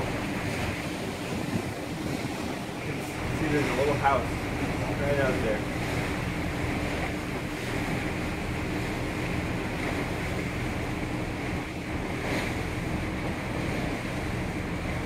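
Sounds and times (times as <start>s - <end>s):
low steady hum: 0.0s - 15.0s
sea water rushing along ship: 0.0s - 15.0s
wind on microphone: 0.0s - 15.0s.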